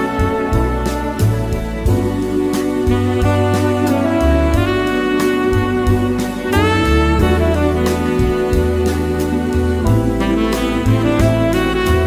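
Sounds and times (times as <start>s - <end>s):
bass line and beat: 0.0s - 12.0s
saxophone melody: 0.0s - 12.0s.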